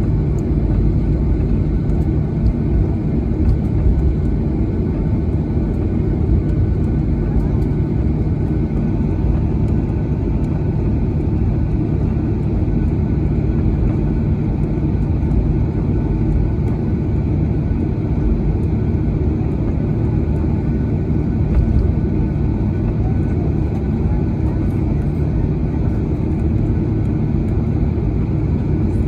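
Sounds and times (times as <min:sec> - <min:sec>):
airliner cabin engine noise: 0:00.0 - 0:29.0.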